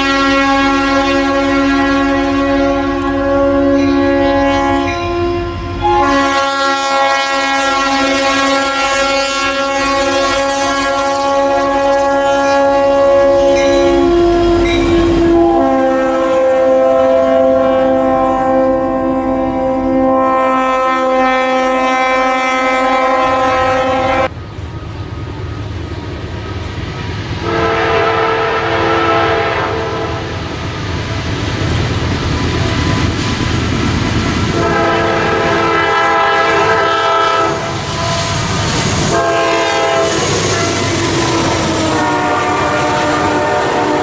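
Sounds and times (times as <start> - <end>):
locomotive air horn blasts: 0.0 - 24.3, 27.4 - 30.5, 34.4 - 44.0
passing train rumble: 0.0 - 44.0.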